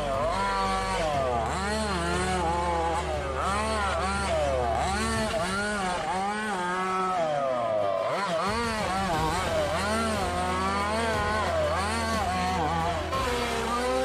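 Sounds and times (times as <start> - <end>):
toy car motor revving: 0.0 - 14.0.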